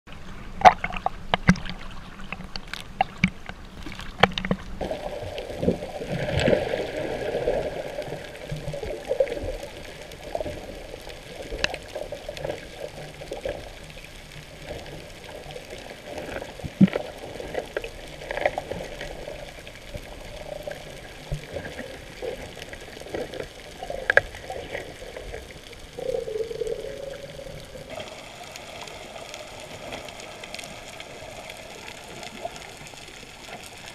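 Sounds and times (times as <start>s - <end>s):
underwater bubbling: 0.1s - 33.9s
water splashing and sloshing: 0.1s - 33.9s.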